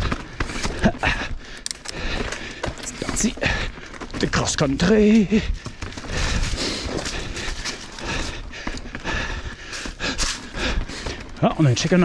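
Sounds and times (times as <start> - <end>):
tyres crunching over rock: 0.0 - 12.0.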